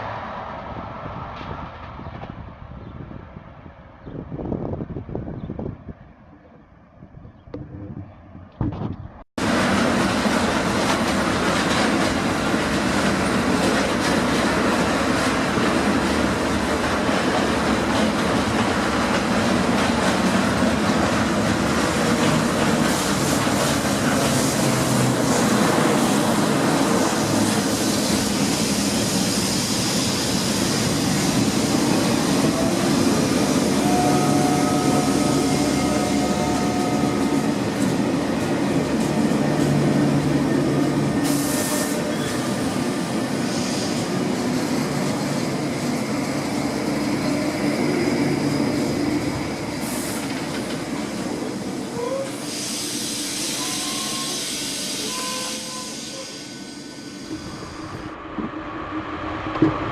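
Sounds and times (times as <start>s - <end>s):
train wheels rolling on rails: 8.6s - 59.9s.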